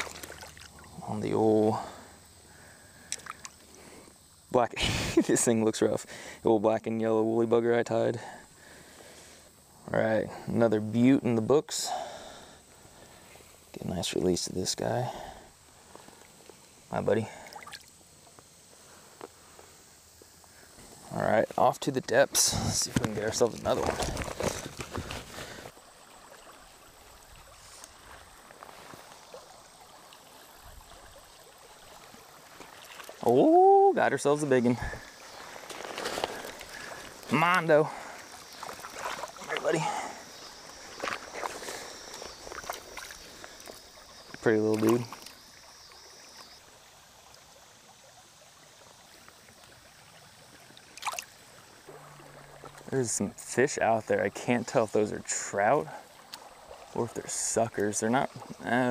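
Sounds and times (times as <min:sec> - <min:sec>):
creek water running over gravel: 0:00.0 - 0:58.9
rustle: 0:00.0 - 0:58.9.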